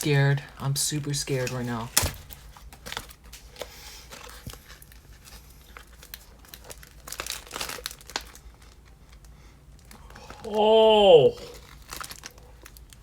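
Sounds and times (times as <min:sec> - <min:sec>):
foil wrapper crinkling: 0:01.3 - 0:10.4, 0:11.4 - 0:13.0.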